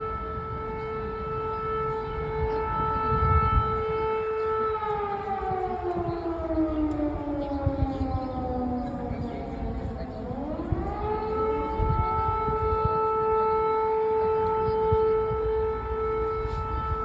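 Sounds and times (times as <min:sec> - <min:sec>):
air raid siren wailing: 0:00.0 - 0:17.0.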